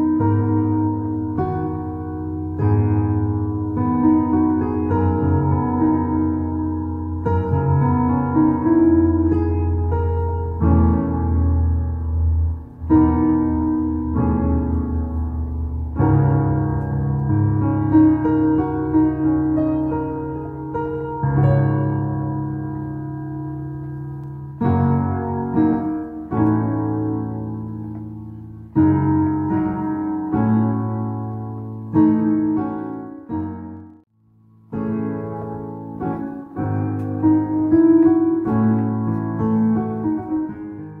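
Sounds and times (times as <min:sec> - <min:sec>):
keyboard piano chords: 0:00.0 - 0:41.0.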